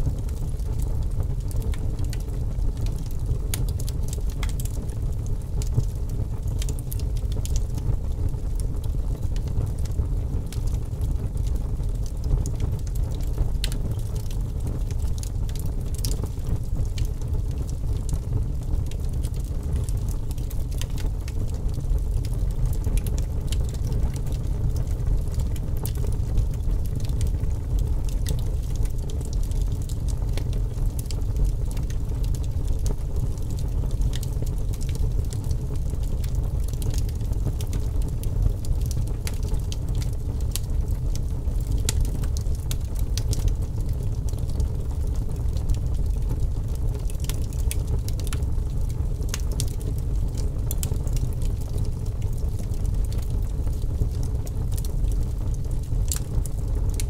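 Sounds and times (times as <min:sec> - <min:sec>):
low rumble of fire: 0:00.0 - 0:57.0
wood fire crackling: 0:00.0 - 0:57.0.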